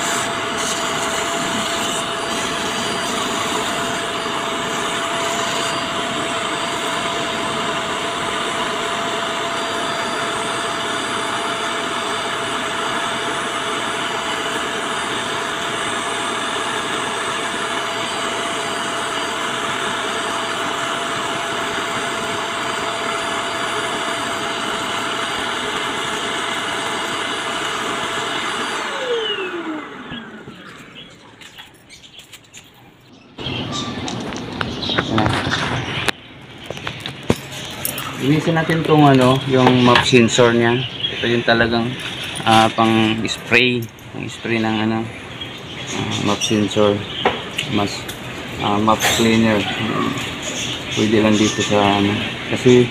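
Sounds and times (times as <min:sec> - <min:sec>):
vacuum motor spinning down: 0:00.0 - 0:31.3, 0:33.4 - 0:52.9
vacuum cleaner running: 0:00.0 - 0:31.5, 0:33.4 - 0:52.9.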